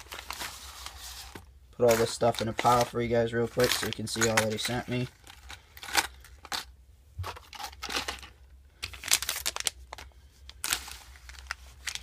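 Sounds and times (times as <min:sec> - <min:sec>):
plastic packages crinkling and clacking: 0:00.0 - 0:12.0.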